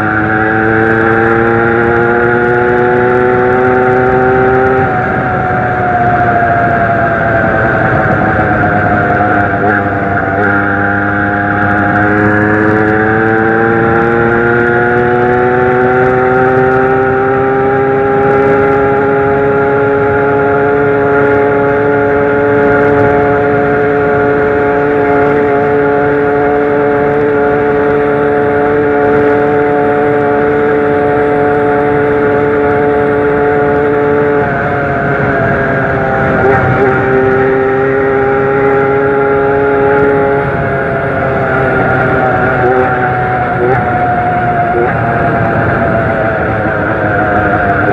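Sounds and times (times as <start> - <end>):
moped engine running: 0.0 - 47.9.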